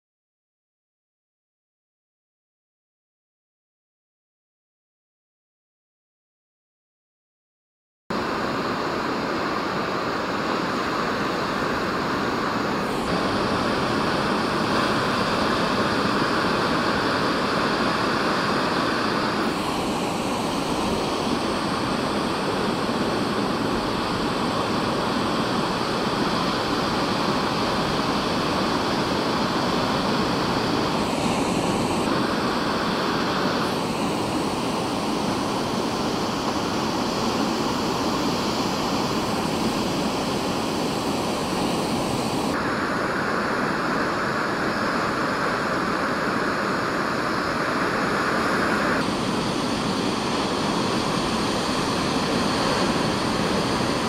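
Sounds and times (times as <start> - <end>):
ocean surf breaking: 8.2 - 54.0.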